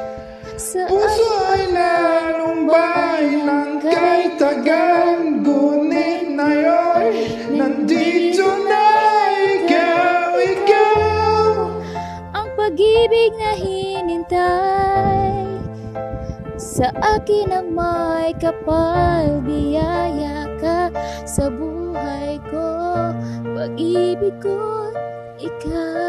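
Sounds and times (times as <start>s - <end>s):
karaoke backing track: 0.0s - 26.0s
person singing pop ballad: 0.4s - 15.8s, 16.6s - 26.0s.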